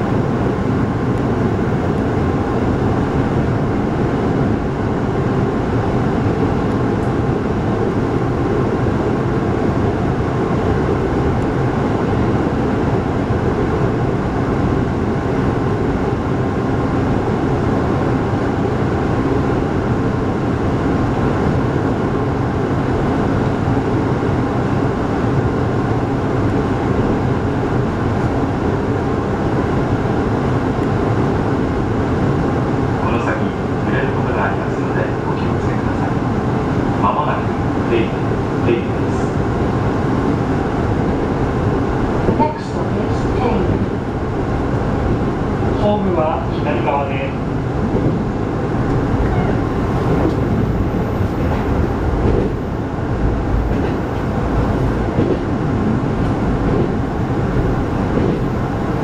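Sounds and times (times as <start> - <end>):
train running rumble from inside: 0.0 - 59.0.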